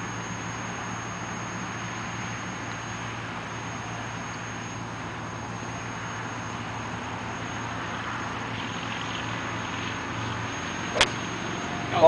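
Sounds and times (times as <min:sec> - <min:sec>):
low drone: 0:00.0 - 0:12.0.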